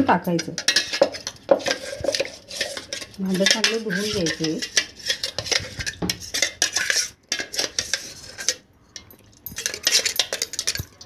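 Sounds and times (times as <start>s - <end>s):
metal spoon scraping steel jar: 0.2s - 11.0s.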